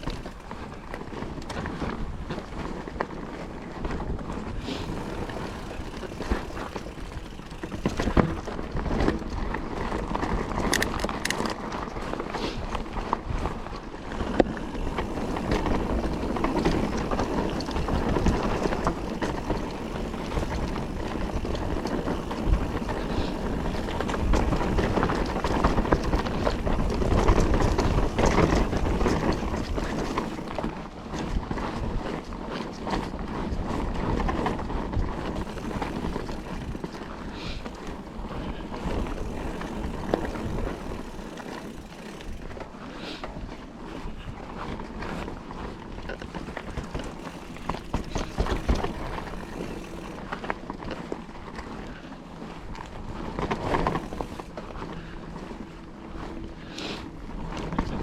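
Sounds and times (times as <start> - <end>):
bike clicks and rattles: 0.0 - 58.0
tyres rolling over dirt: 0.0 - 58.0
wind buffeting microphone: 0.0 - 58.0.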